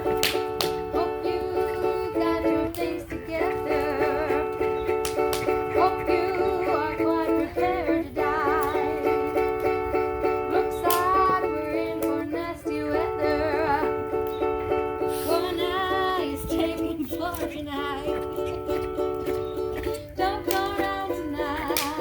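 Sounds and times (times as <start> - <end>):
ukulele background music: 0.0 - 22.0.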